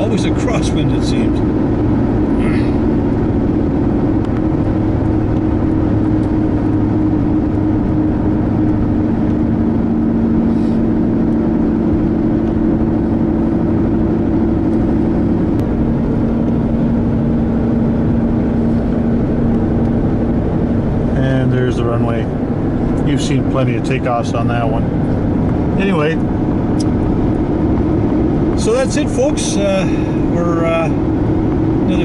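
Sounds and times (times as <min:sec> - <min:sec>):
car engine hum: 0:00.0 - 0:32.0
road rumble: 0:00.0 - 0:32.0.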